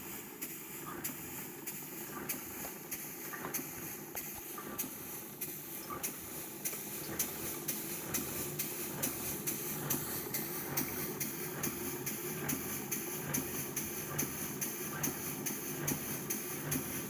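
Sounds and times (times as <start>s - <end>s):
steam engine exhaust beats: 0.0s - 17.0s.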